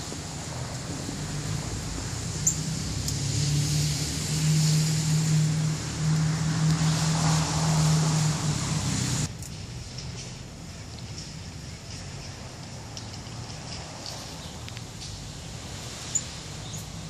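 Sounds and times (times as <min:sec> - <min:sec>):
engine humming: 0:00.0 - 0:17.0
outdoor hiss: 0:00.0 - 0:17.0.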